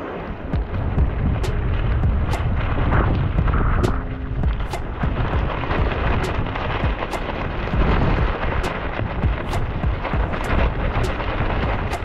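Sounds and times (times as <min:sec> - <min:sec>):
wind buffeting microphone: 0:00.0 - 0:12.0
sharp ticks: 0:01.4 - 0:12.0.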